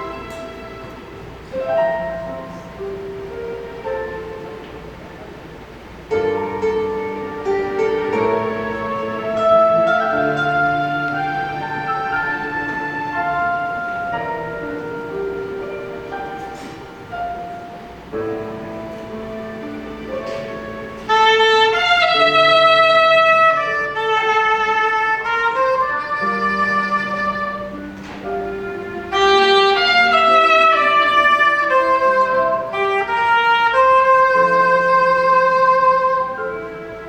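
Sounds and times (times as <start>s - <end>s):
soprano saxophone melody: 0.0s - 4.5s, 6.1s - 37.0s.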